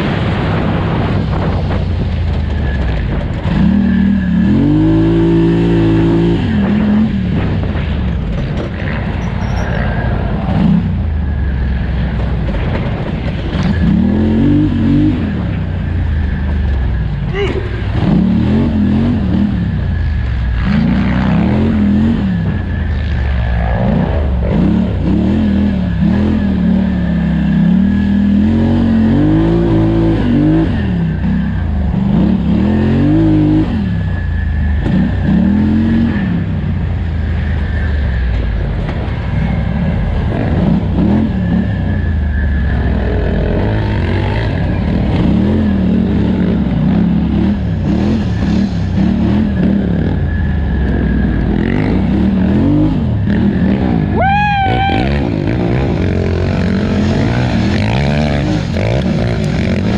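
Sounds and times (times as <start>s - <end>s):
atv engine revving: 0.0s - 59.9s
low rumble: 0.0s - 59.9s.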